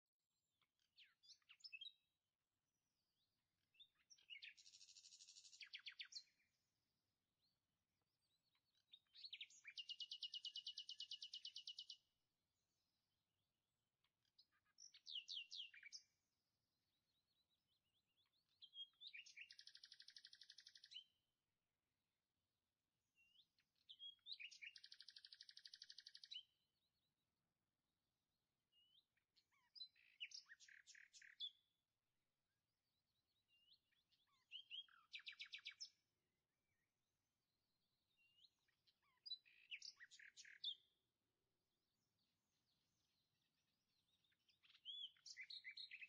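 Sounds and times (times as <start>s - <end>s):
faint bird song with trills: 0.0s - 46.0s.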